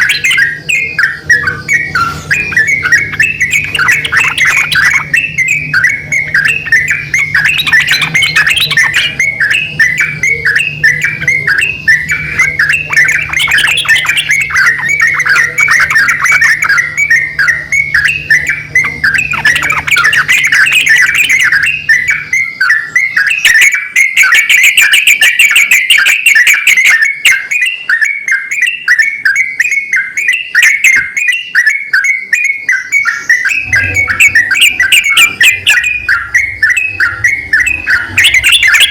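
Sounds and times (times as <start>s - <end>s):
birds chattering calls: 0.0s - 38.9s.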